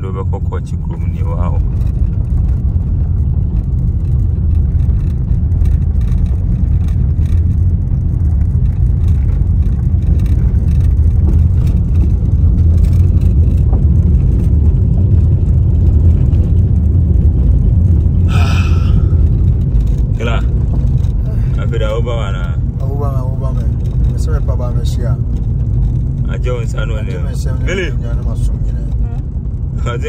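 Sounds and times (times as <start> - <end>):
car driving on dirt road: 0.0 - 30.0
faint rattles: 0.0 - 30.0.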